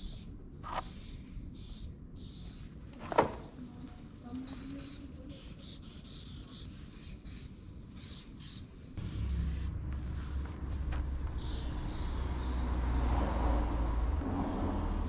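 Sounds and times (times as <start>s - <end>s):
spray paint can hissing: 0.0s - 15.0s.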